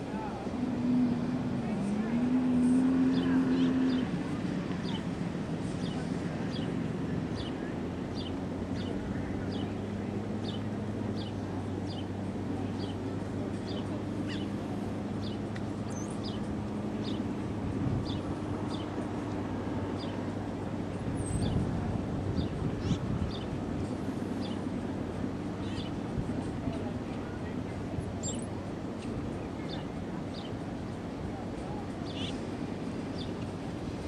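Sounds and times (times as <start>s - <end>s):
low motor hum: 0.0s - 34.0s.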